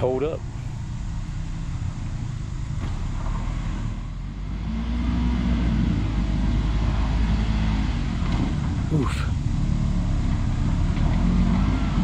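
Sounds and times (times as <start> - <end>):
utility vehicle engine revving: 0.0 - 12.0.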